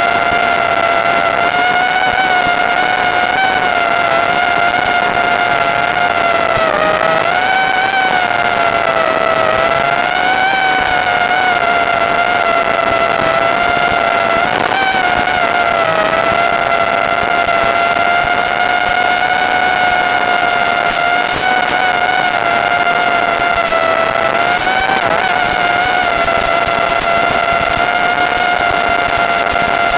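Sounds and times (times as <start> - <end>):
quadcopter propellers whining: 0.0 - 29.9.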